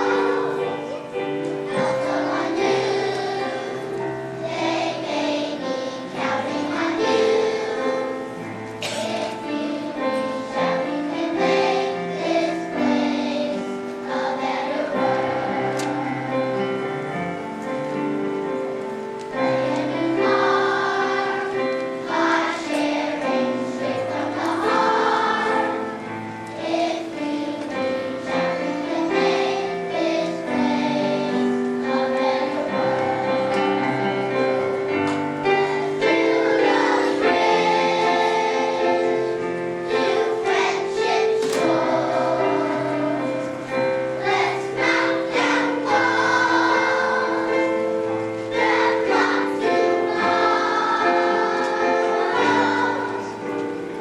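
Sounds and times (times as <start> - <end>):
children's choir singing: 0.0 - 54.0
instrumental accompaniment: 0.0 - 54.0.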